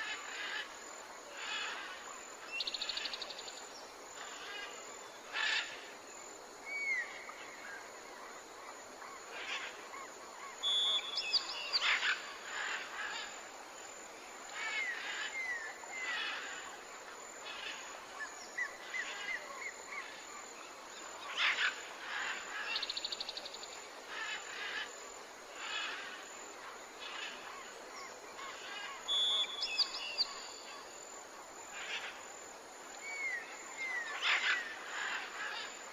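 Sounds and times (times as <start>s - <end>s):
outdoor ambience hiss: 0.0s - 35.9s.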